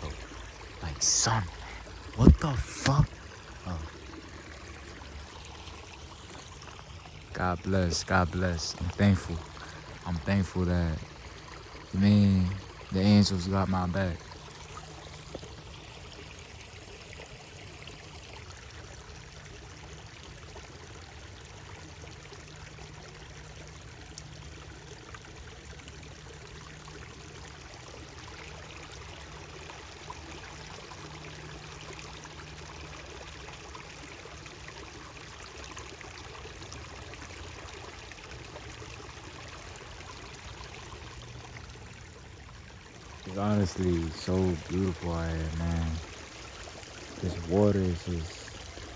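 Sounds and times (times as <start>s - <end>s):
stream water rushing and splashing: 0.0s - 48.9s.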